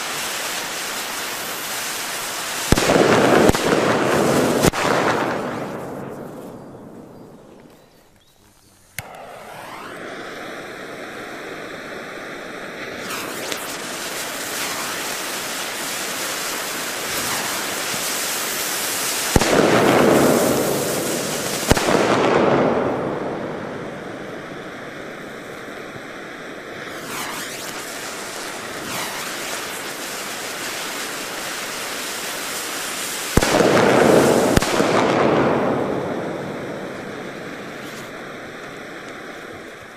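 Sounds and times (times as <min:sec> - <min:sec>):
firecrackers banging: 0:00.0 - 0:07.7, 0:08.9 - 0:11.9, 0:12.7 - 0:23.9, 0:26.8 - 0:39.0
continuous rushing hiss: 0:00.0 - 0:39.9.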